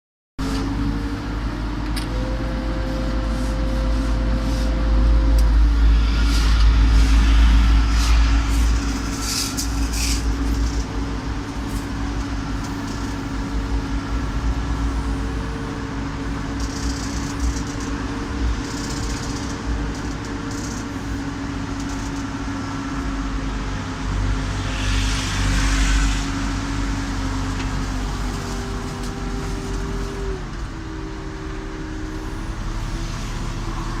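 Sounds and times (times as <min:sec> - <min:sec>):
backhoe diesel engine running: 0:00.4 - 0:24.4, 0:26.6 - 0:34.0.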